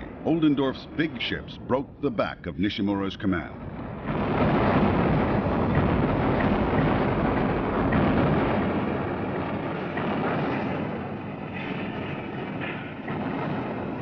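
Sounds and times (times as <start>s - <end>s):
dense steady rumble: 0.0s - 14.0s.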